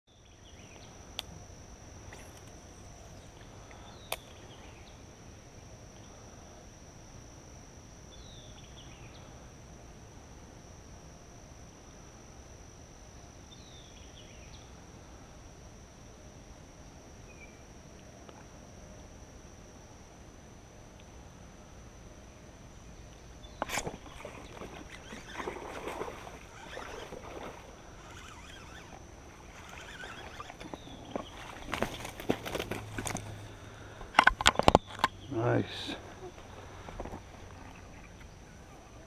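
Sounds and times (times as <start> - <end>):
insects droning: 0.1 - 39.0.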